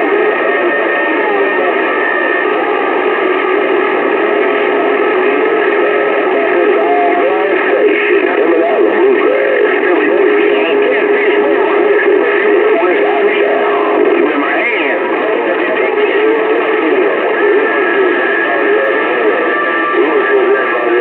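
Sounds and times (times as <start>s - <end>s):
garbled radio voices: 0.0s - 21.0s
radio static: 0.0s - 21.0s.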